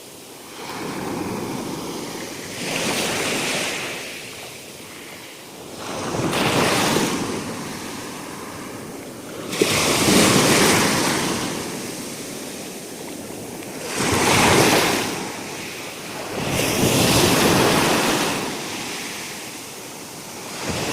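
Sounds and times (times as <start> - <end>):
sea waves breaking on shore: 0.0 - 20.9.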